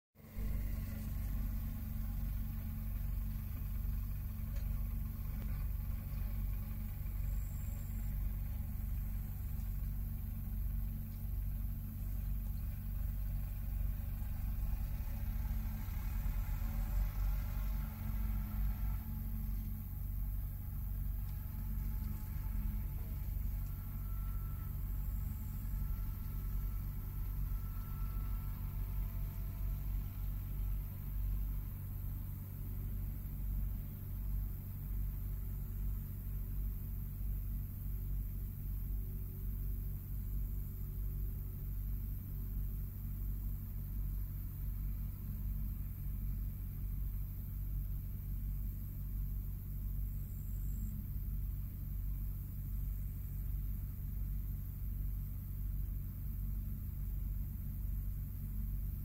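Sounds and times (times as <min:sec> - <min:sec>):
distant diesel engines rumbling: 0:00.2 - 0:59.0
faint high whine: 0:00.2 - 0:59.0.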